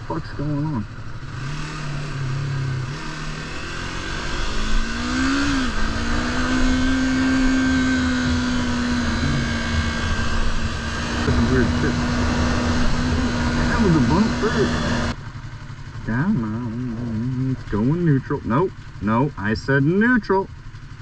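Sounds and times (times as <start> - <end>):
motorcycle engine: 0.0 - 21.0.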